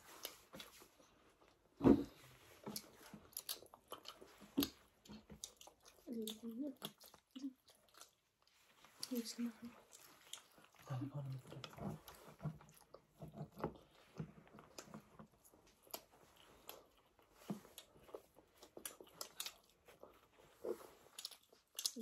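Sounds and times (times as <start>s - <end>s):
bread tearing with clicks and rustles: 0.0s - 22.0s
chewing: 0.0s - 22.0s.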